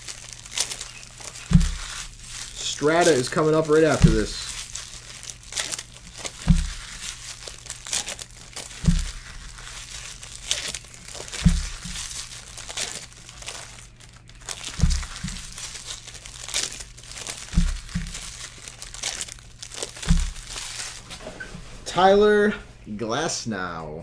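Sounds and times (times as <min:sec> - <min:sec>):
foil wrappers crinkling and tearing: 0:00.0 - 0:21.9.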